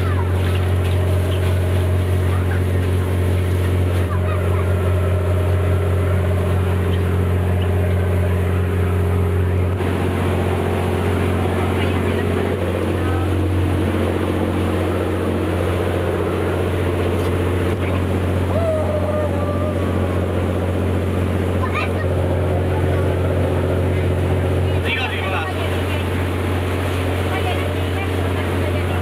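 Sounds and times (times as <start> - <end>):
boat engine droning: 0.0 - 29.0.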